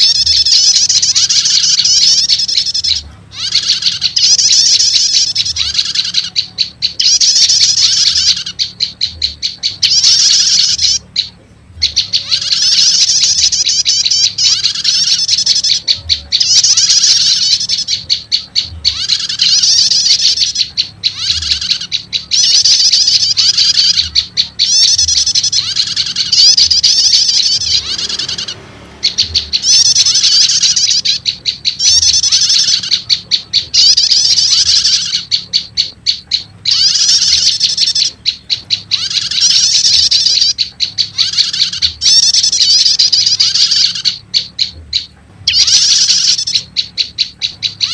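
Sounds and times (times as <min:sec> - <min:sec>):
high-pitched bird chattering trills: 0:00.0 - 0:47.9.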